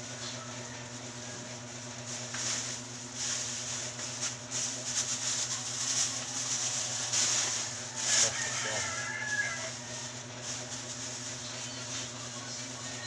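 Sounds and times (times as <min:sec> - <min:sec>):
steady low hum: 0:00.0 - 0:13.0
plastic bags rustling and crinkling: 0:00.3 - 0:13.0.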